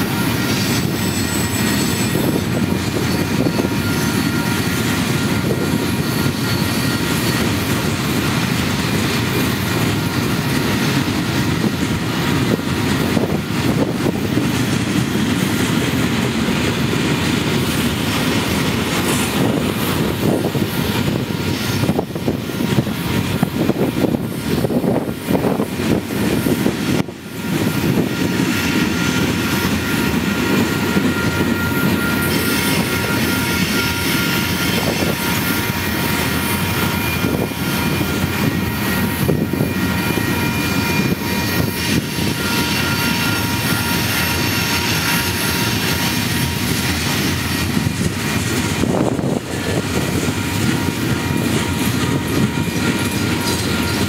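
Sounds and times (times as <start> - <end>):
high wheel squeal: 0.0 - 54.0
steel wheels rumbling on rail: 0.0 - 54.0.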